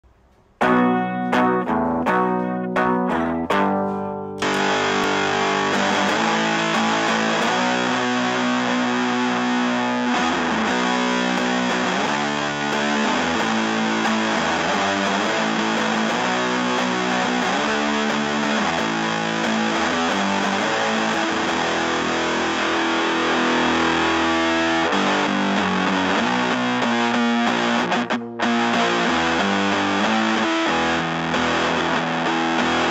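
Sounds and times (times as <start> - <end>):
distorted fuzz electric guitar: 0.5 - 32.9.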